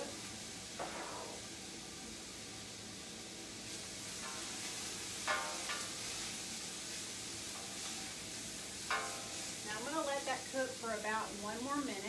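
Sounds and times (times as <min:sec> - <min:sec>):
garlic sizzling in a pot: 0:00.0 - 0:12.0.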